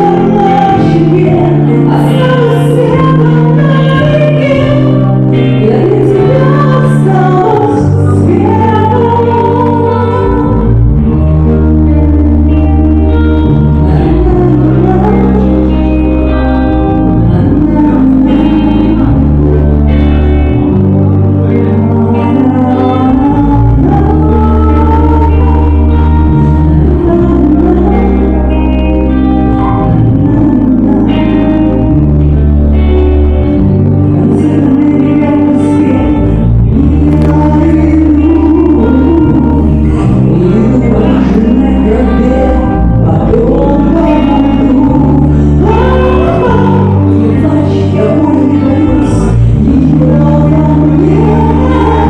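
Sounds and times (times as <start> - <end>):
loud accompaniment through speakers: 0.0 - 52.0
woman singing into a microphone: 0.0 - 52.0.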